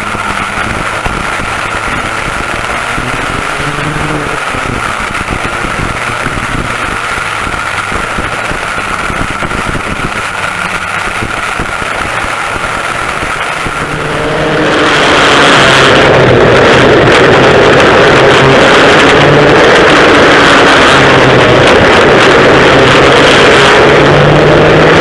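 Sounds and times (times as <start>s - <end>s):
racing kart engines whining: 0.0s - 25.0s.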